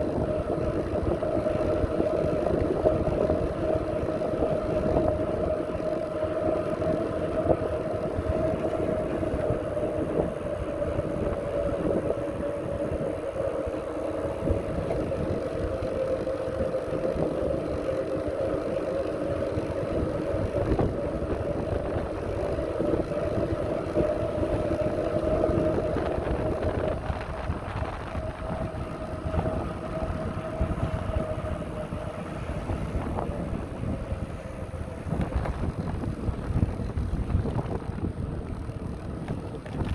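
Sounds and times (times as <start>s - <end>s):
steady whine: 0.0s - 39.9s
wind and road rumble: 0.0s - 39.9s.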